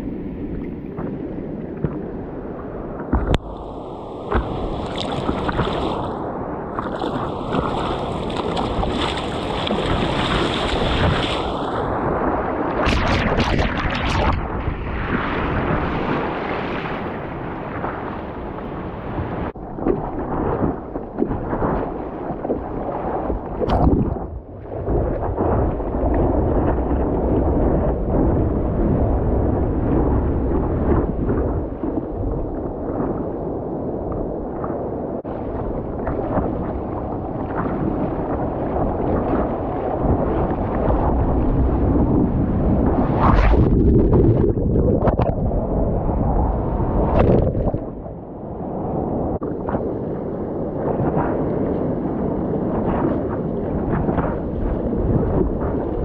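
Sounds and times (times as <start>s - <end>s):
wind rumble on microphone: 0.0s - 56.0s
sea water sloshing and splashing: 3.0s - 33.4s, 34.0s - 48.4s, 49.0s - 56.0s.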